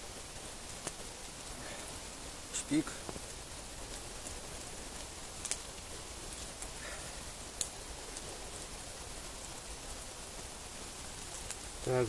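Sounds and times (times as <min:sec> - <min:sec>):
campfire crackles: 0:00.0 - 0:12.0
steady outdoor hiss: 0:00.0 - 0:12.0.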